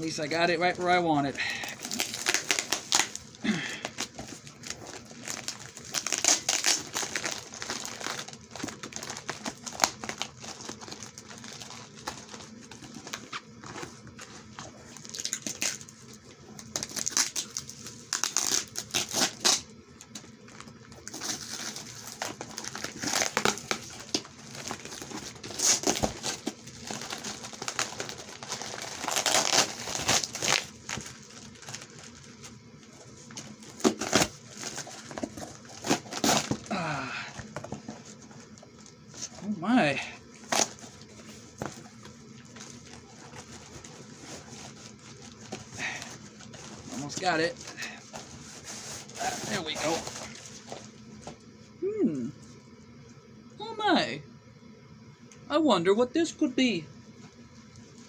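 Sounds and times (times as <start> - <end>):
packaging crinkling and tearing: 0.8 - 39.6, 40.2 - 51.4.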